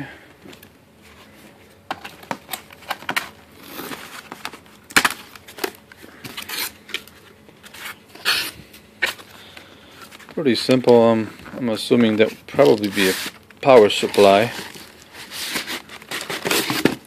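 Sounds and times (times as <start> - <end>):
cardboard packaging rustling: 1.0 - 17.0.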